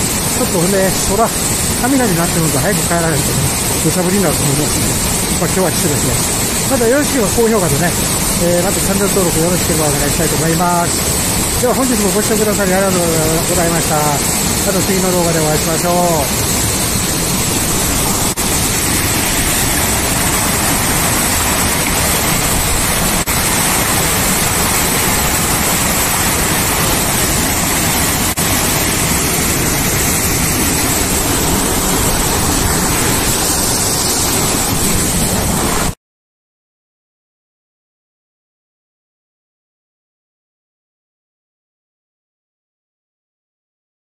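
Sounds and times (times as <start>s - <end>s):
stream cascading over rock: 0.0s - 36.0s
waterfall rushing: 0.0s - 36.0s.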